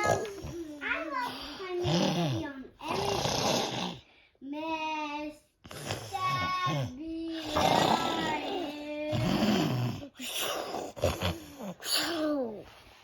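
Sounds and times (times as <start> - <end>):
child imitating snoring: 0.0 - 4.1, 5.6 - 12.6.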